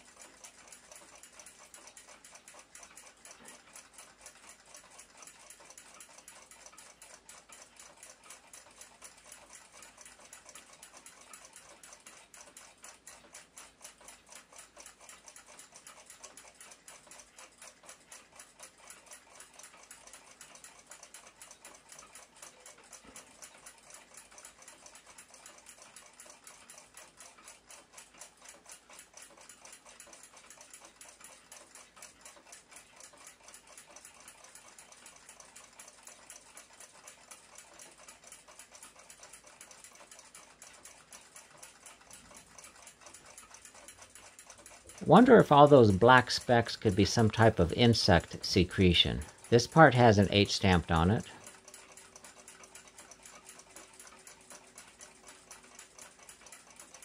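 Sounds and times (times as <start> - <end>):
mechanical clock ticking: 0.0 - 57.0.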